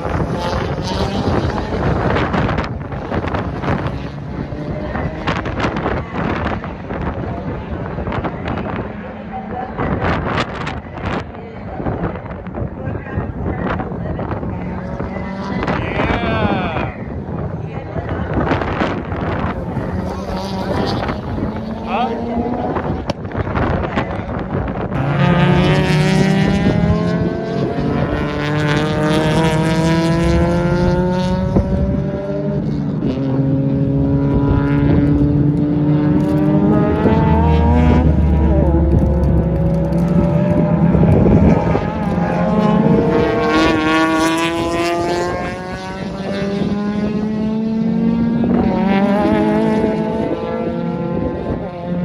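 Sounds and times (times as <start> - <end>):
car engine accelerating hard: 0.0 - 12.8, 13.4 - 52.0.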